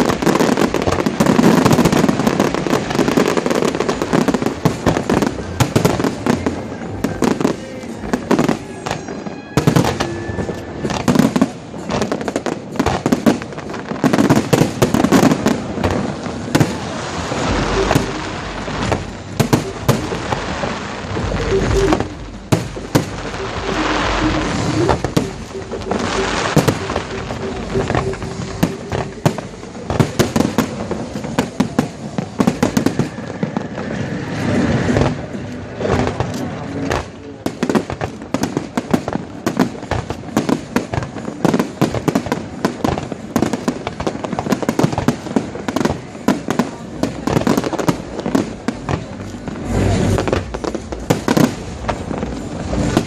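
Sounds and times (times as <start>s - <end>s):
deep firework booms: 0.0s - 53.0s
fireworks bangs and crackling: 0.0s - 53.0s.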